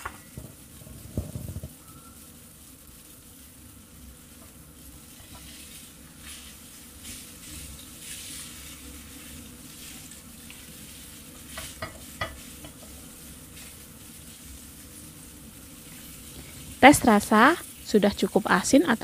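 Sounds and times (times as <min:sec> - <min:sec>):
food sizzling in a frying pan: 0:00.0 - 0:19.0
spatula stirring and tossing: 0:02.7 - 0:19.0.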